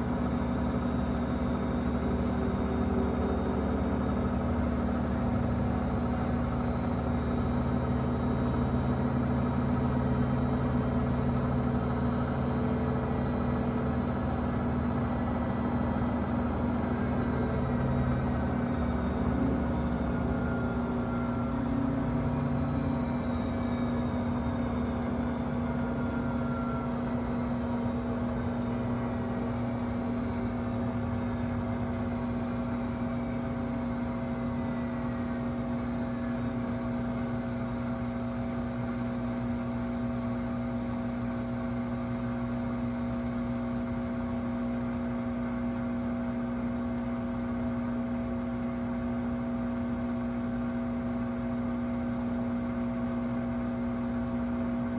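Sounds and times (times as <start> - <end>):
washing machine buzzing: 0.0 - 54.9.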